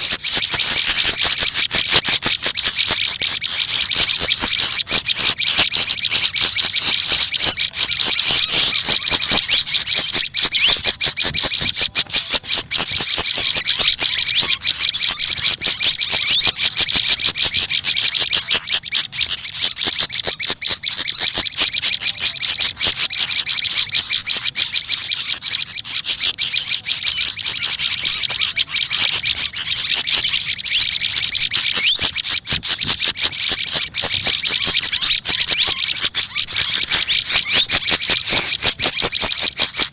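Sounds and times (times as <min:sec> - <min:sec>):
songbirds chattering: 0:00.0 - 0:39.9.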